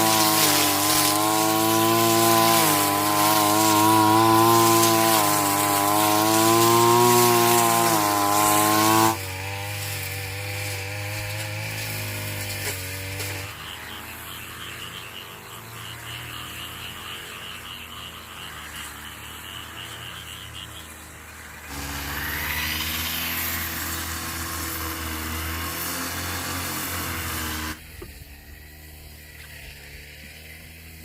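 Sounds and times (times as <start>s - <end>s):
motor running: 0.0s - 31.0s.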